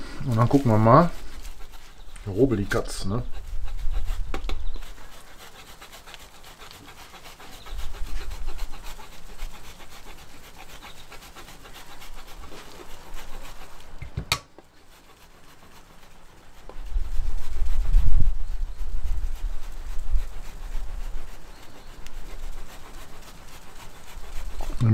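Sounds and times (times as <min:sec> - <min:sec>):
grater scraping cheese: 0:00.2 - 0:14.0, 0:14.8 - 0:24.9.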